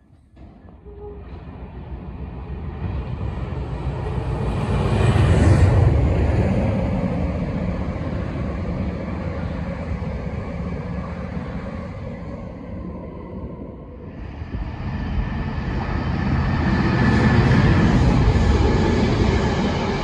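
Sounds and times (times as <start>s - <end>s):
diesel locomotive engine: 0.0s - 20.0s.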